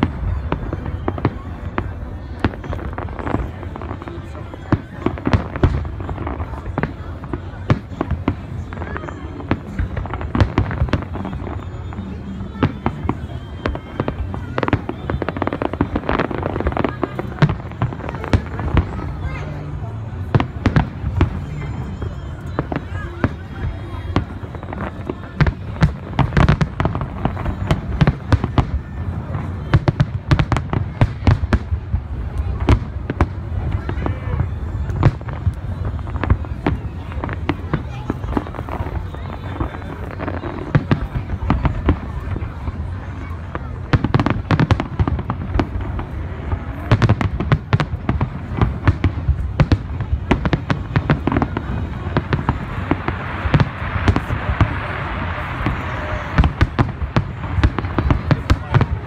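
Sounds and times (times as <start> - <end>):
low rumble of fireworks: 0.0 - 59.0.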